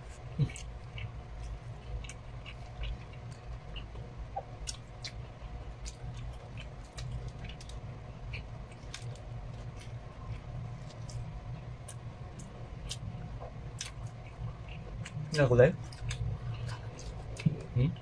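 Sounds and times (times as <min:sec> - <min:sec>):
low hum: 0:00.0 - 0:18.0
people chewing food: 0:00.0 - 0:18.0.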